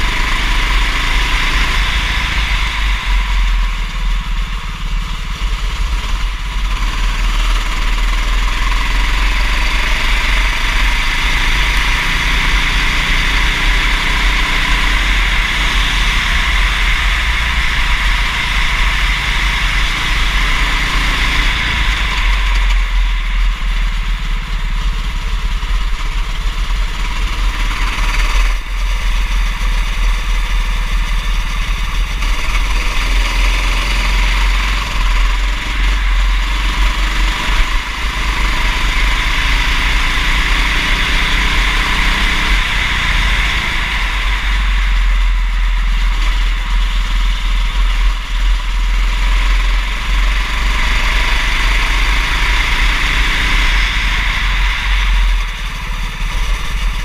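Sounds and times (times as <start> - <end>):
go-kart engine accelerating: 0.0 - 57.0.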